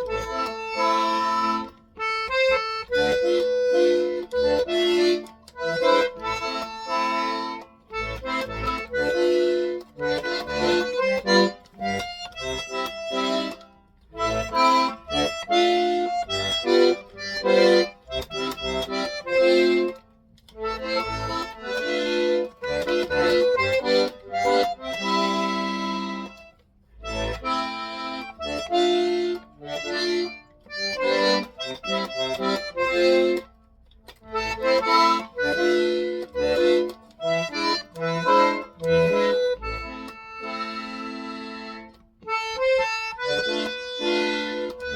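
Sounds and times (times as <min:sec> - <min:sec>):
accordion playing chords: 0:00.0 - 0:44.9.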